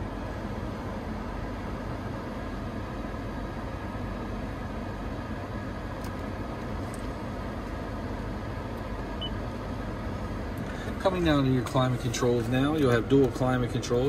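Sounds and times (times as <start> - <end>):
climate control fan blowing: 0.0 - 14.0
vehicle engine running: 0.0 - 14.0.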